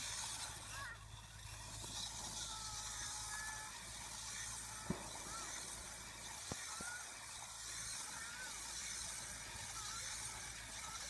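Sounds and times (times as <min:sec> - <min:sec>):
small engine buzzing: 0:00.0 - 0:11.0.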